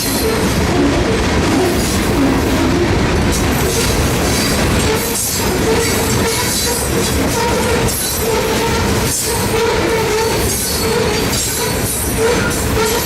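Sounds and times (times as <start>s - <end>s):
freight train rolling past: 0.0s - 13.0s
steel wheels squealing on rails: 0.0s - 13.0s.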